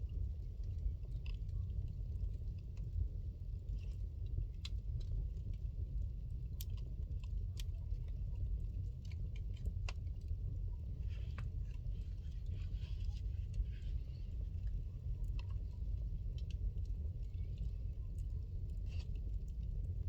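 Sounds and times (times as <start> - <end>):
low fire rumble: 0.0 - 20.0.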